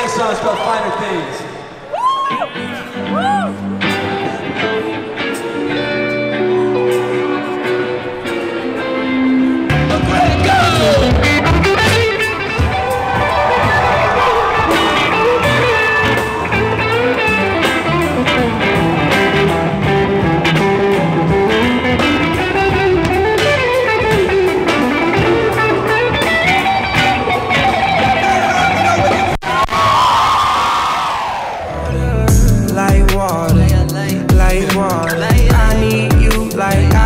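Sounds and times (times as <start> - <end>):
band music with electric guitar: 0.0 - 29.8, 31.6 - 37.0.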